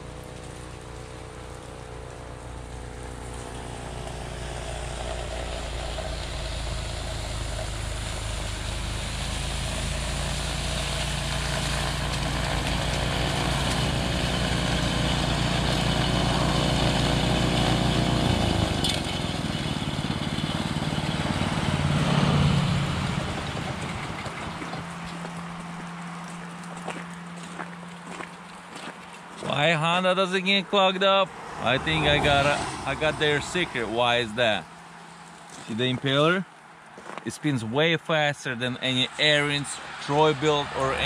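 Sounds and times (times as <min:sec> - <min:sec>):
snowblower engine running: 0:00.0 - 0:29.6, 0:31.3 - 0:35.8, 0:39.2 - 0:41.0.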